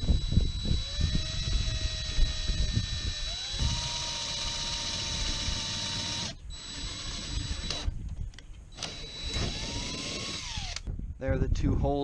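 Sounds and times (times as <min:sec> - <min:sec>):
electric drill boring metal: 0:00.0 - 0:07.9, 0:08.8 - 0:10.9.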